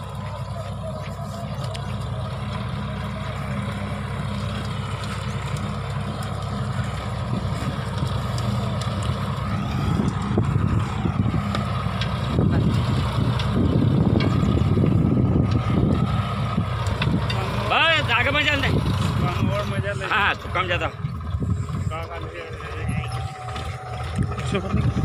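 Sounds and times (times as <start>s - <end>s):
tractor engine running under load: 0.0s - 25.0s.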